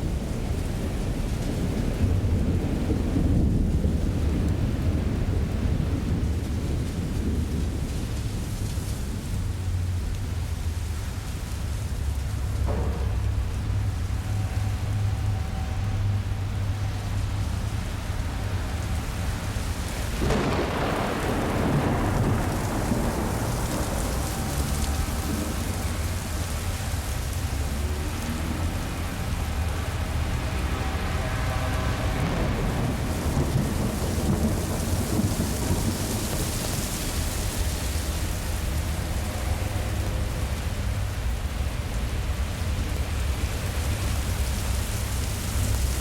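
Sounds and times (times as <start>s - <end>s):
steady rain: 0.0s - 46.0s
thunder rumbling: 0.0s - 46.0s.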